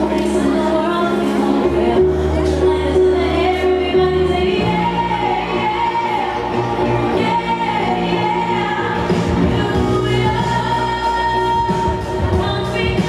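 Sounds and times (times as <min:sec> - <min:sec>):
ballroom dance music: 0:00.0 - 0:13.0.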